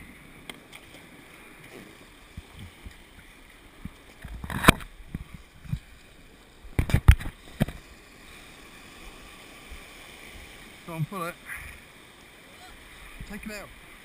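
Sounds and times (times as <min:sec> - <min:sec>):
shallow surf washing: 0:00.0 - 0:14.0.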